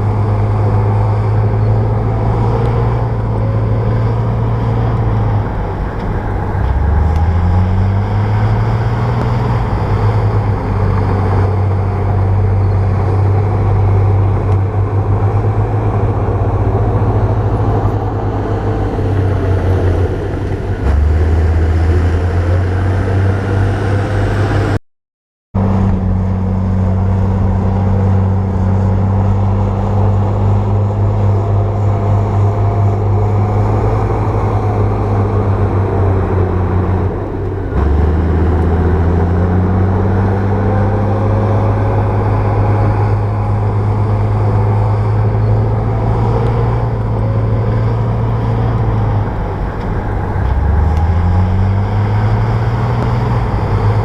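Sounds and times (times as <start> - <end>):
bulldozer diesel engine revving: 0.0 - 24.8, 25.6 - 54.0.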